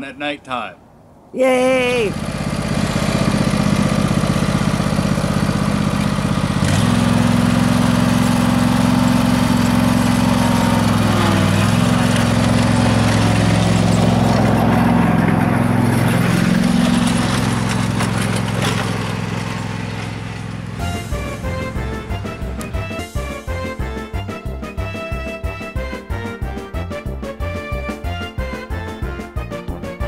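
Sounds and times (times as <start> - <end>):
riding mower engine running: 2.0 - 29.1.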